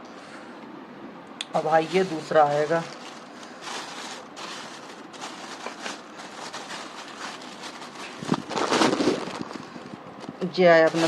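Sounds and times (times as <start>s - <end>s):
speaker and cable rustling: 1.5s - 11.0s.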